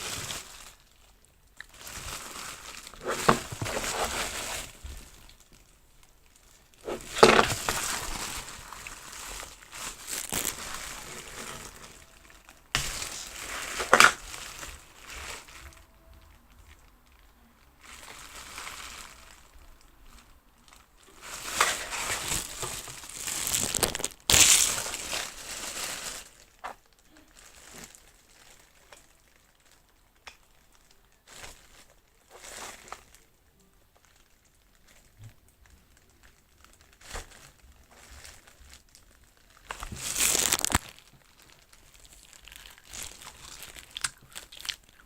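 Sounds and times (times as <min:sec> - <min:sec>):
plastic packaging crinkling: 0:00.0 - 0:45.0.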